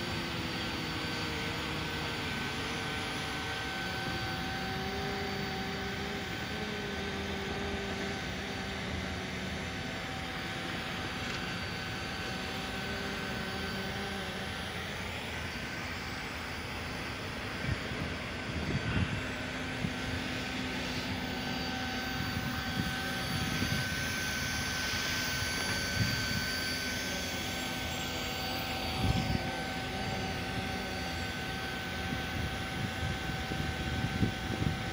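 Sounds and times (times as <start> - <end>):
hot-air blower humming with whine: 0.0 - 34.9.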